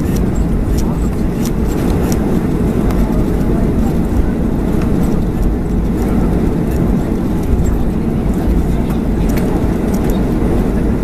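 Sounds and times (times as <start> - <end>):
jet engines idling low rumble: 0.0 - 11.0.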